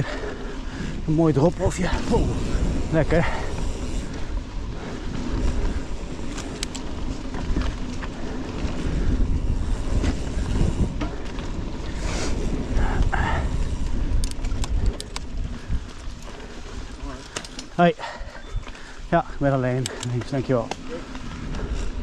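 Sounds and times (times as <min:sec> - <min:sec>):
bike clicks and rattles: 0:00.0 - 0:22.0
bike tyre and suspension rumble: 0:00.0 - 0:22.0
wind buffeting microphone: 0:00.0 - 0:22.0.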